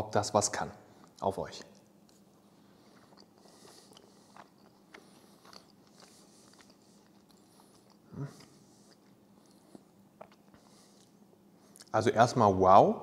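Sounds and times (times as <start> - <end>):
man chewing with mouth smacks: 1.0 - 11.9.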